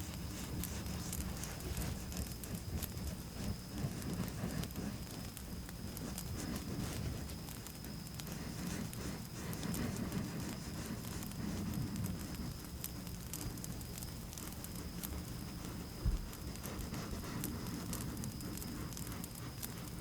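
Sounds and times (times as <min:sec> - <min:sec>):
campfire crackling and popping: 0:00.0 - 0:20.0
crickets trilling: 0:00.0 - 0:20.0.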